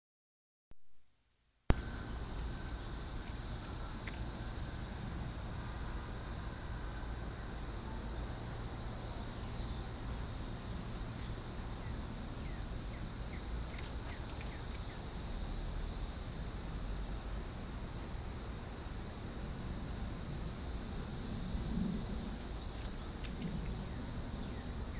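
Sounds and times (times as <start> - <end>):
cicadas droning: 1.7 - 24.9.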